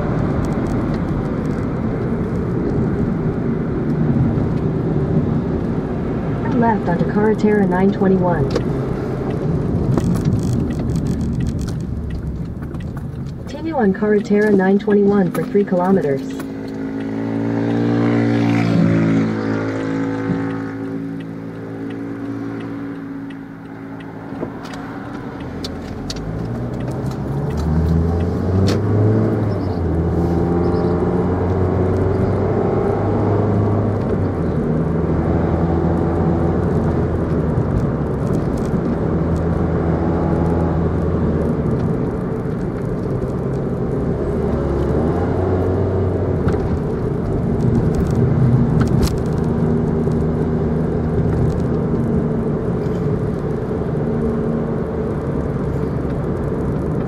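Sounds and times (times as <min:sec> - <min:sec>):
car engine: 0:00.0 - 0:57.0.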